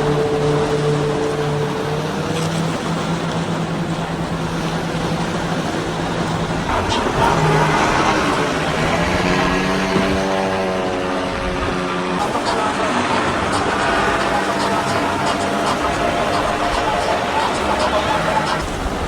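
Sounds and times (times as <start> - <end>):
low engine drone: 0.0 - 19.0
steady-pitched boat engine: 0.0 - 19.0
water and wind hiss: 0.0 - 19.0.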